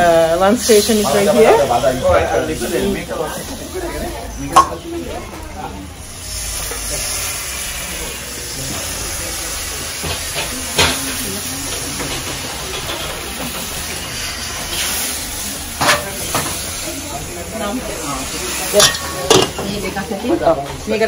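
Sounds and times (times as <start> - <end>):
gas burners hissing: 0.0 - 21.0.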